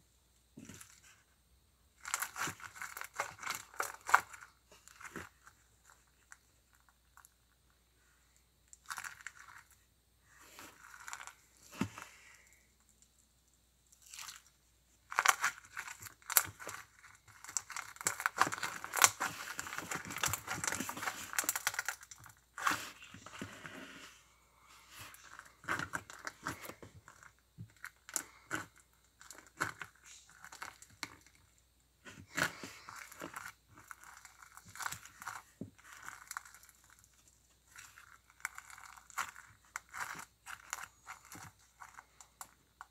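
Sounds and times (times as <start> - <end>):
crunchy slime crackling: 2.0 - 13.1, 13.8 - 42.9.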